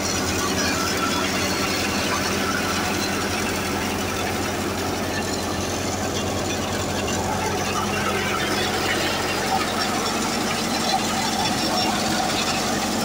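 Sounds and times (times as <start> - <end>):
spinning belts and threshing drum: 0.0 - 13.0
tractor diesel engine humming: 0.0 - 13.0.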